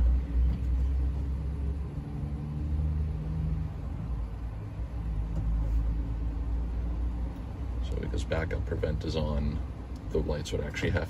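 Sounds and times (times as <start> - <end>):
engine hum: 0.0 - 11.0
road traffic rumble: 0.0 - 11.0.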